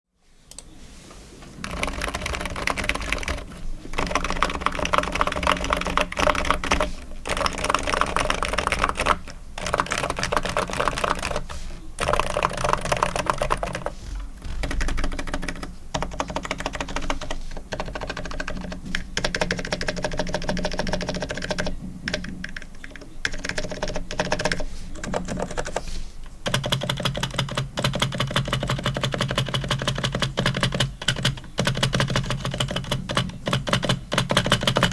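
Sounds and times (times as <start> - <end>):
fast keyboard typing: 1.6 - 34.9.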